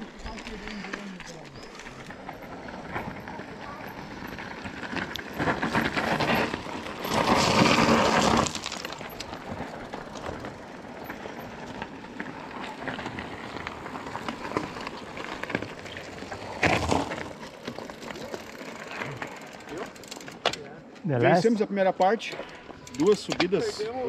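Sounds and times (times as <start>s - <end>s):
mountain bike on dirt trail: 0.0s - 24.0s.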